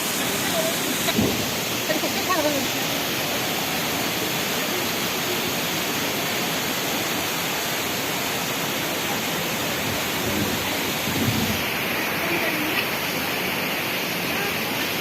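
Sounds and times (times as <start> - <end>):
water falling over cascade: 0.0 - 15.0.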